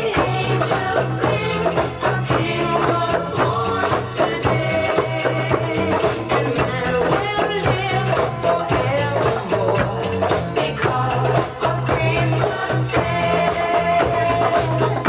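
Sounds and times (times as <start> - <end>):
hand drums playing fast rhythm: 0.0 - 15.0.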